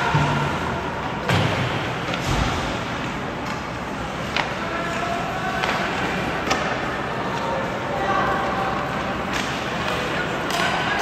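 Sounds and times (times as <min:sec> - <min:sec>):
arena noise: 0:00.0 - 0:11.0
hockey sticks and puck clacking: 0:00.0 - 0:11.0.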